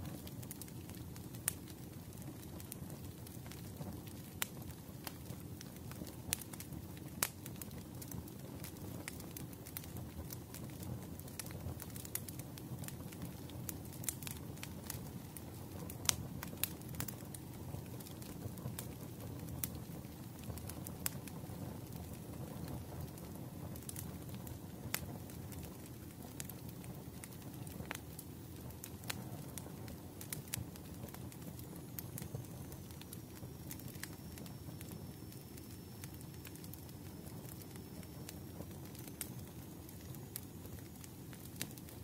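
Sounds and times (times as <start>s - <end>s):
sharp pops of fire: 0.0s - 42.0s
wood fire crackling: 0.0s - 42.0s.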